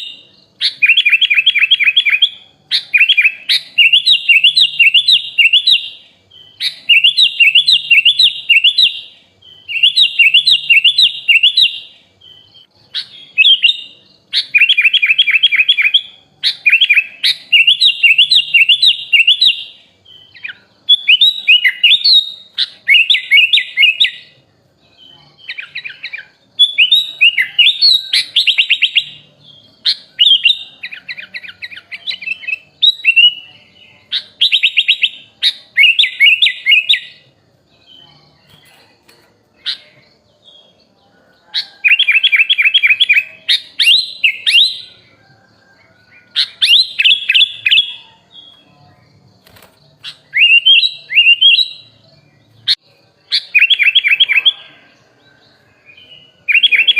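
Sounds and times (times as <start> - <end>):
bulbul singing varied song: 0.0 - 56.9.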